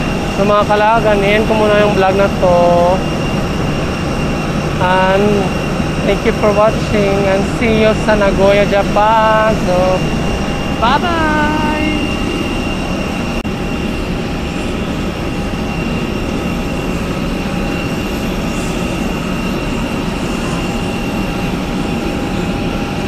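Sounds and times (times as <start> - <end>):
airliner cabin engine noise: 0.0 - 23.0.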